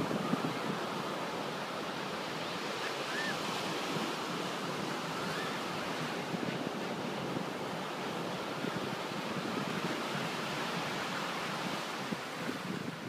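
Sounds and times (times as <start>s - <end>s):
ocean waves breaking on sand: 0.0s - 13.0s.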